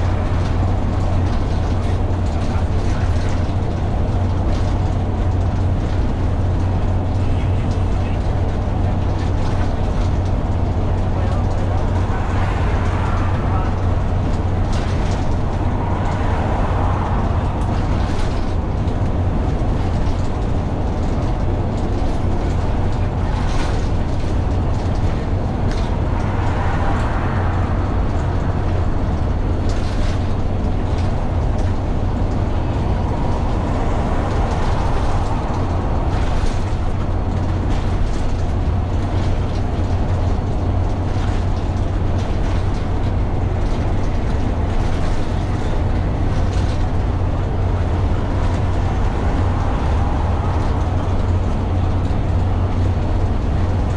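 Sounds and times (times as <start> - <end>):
bus engine drone: 0.0 - 53.9
rattles: 0.0 - 53.9
road noise: 0.0 - 53.9.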